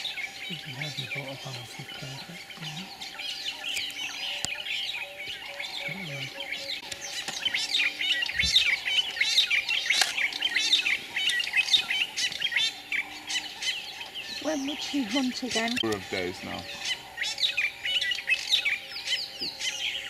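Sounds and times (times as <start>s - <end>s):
birds singing and chirping: 0.0s - 20.0s.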